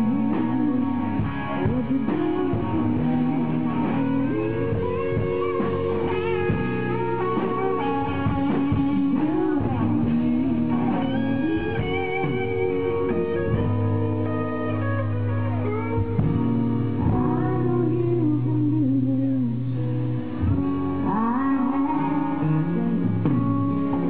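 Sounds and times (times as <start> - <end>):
electric guitar: 0.0 - 24.0
live country band playing: 0.0 - 24.0.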